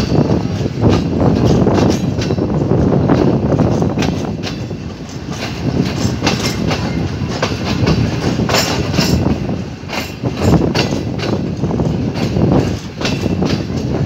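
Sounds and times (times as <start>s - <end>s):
clickety-clack over rail joints: 0.0s - 14.0s
train wheels rumbling: 0.0s - 14.0s.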